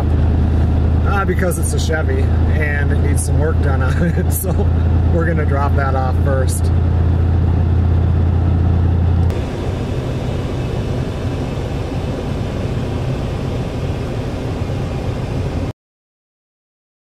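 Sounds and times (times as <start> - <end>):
vehicle engine and road noise: 0.0 - 15.7.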